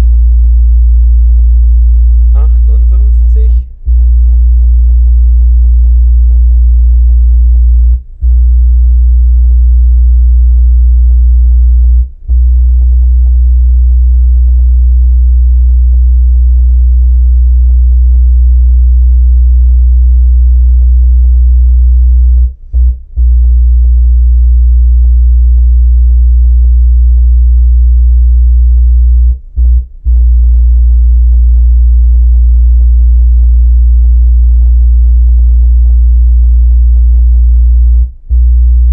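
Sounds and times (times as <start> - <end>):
subwoofer low test tone: 0.0 - 38.9.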